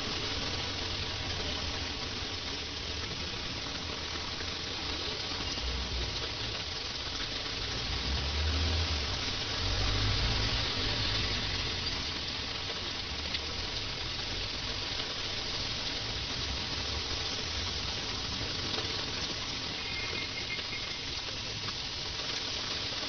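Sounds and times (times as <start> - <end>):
heavy rain on a wet street: 0.0 - 23.0.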